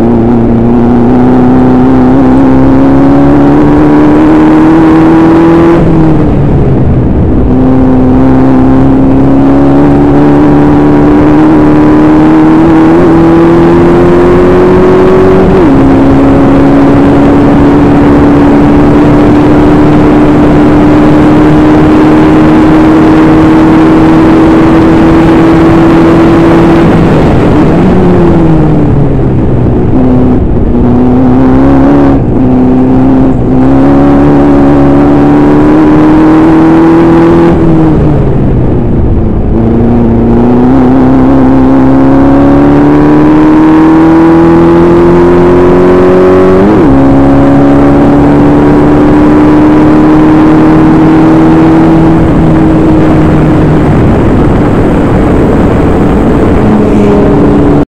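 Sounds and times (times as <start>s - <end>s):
race car engine: 0.0s - 57.9s.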